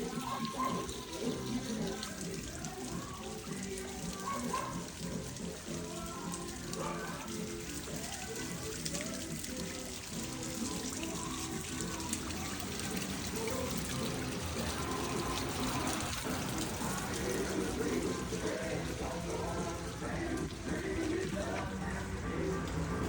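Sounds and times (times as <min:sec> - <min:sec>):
background music: 0:00.0 - 0:23.0
running water: 0:00.0 - 0:23.0.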